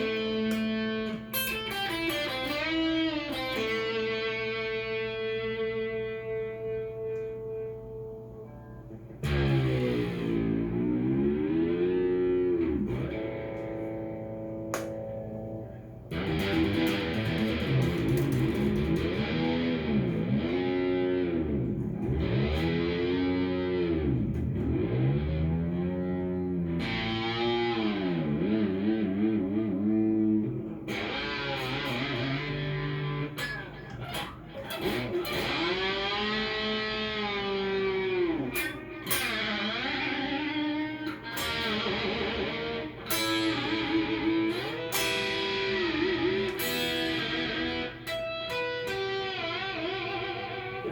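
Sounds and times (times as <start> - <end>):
electric guitar with pitch dips: 0.0 - 50.9.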